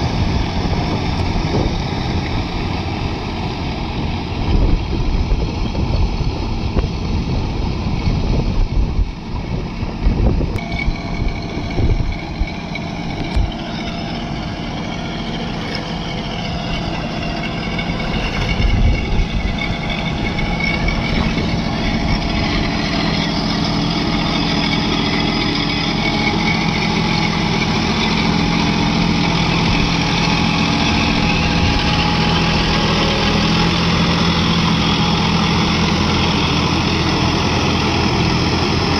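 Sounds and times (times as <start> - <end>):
tractor churning through mud: 0.0 - 38.9
tractor diesel engine running: 0.0 - 38.9
wind gusting on microphone: 0.0 - 38.9.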